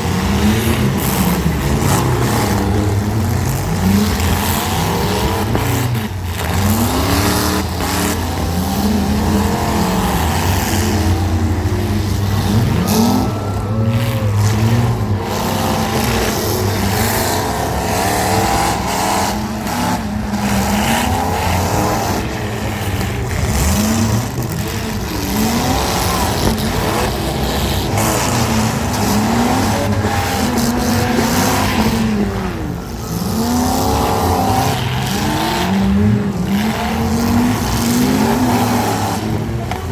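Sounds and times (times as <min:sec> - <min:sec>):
car engines revving: 0:00.0 - 0:39.9
cars crunching impacts: 0:00.0 - 0:39.9.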